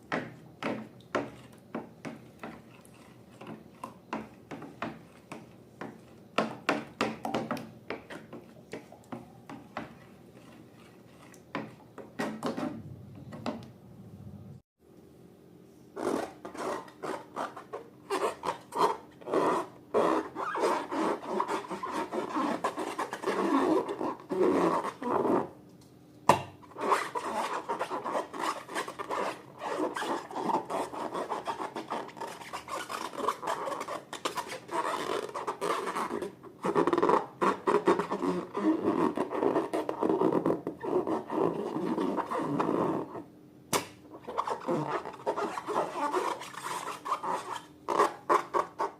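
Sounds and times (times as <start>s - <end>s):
slime rubbing and scraping: 1.2s - 6.8s, 9.7s - 13.0s, 16.0s - 25.5s, 26.7s - 43.3s, 44.1s - 48.9s.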